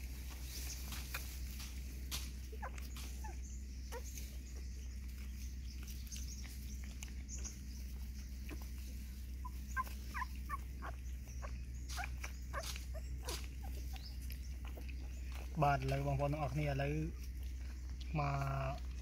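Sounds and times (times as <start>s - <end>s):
puppies squeaking and whimpering: 2.4s - 18.0s.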